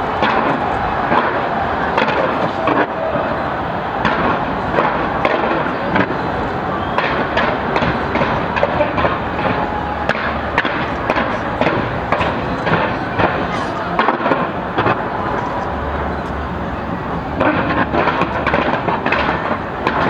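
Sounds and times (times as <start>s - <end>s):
crowd din: 0.0s - 20.0s
fireworks bangs and crackles: 0.0s - 20.0s.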